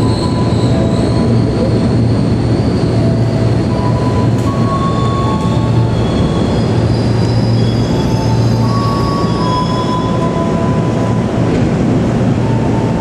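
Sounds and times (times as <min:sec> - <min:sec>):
wheel squeal: 0:00.0 - 0:10.9
train wheels rumbling on rails: 0:00.0 - 0:13.0.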